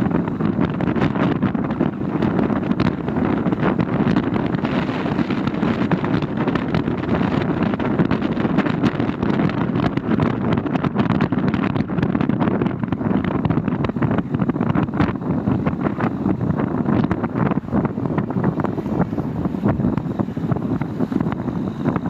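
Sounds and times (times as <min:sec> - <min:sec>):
low rumbling noise: 0:00.0 - 0:22.0
wind buffeting microphone: 0:00.0 - 0:22.0.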